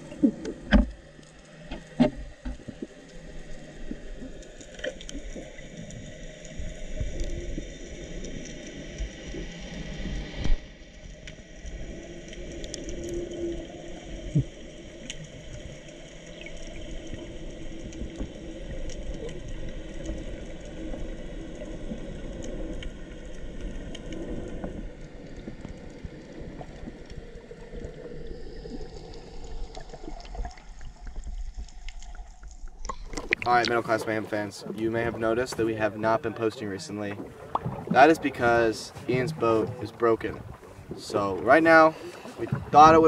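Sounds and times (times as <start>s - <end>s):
small clicks and crackles: 0.0s - 38.1s
muffled underwater water noise: 0.0s - 43.0s.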